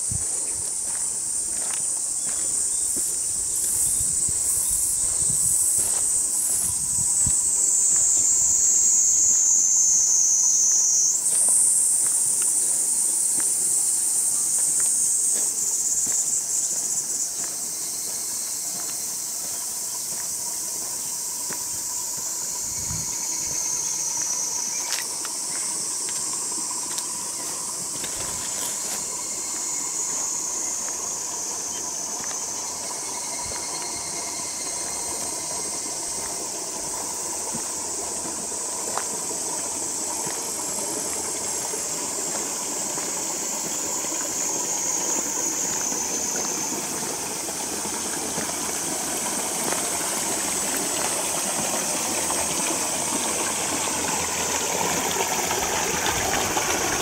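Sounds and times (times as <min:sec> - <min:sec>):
insect pulsing buzz: 0:00.0 - 0:57.0
insects buzzing chorus: 0:00.0 - 0:57.0.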